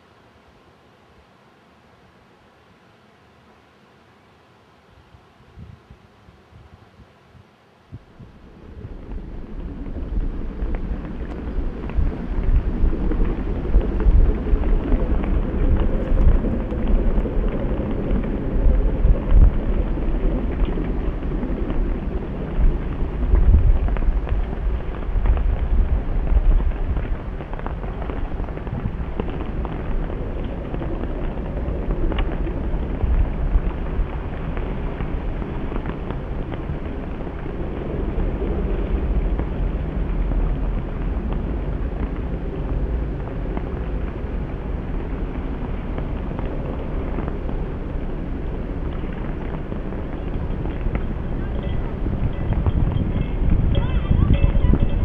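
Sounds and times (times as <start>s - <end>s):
wind buffeting microphone: 5.4s - 55.0s.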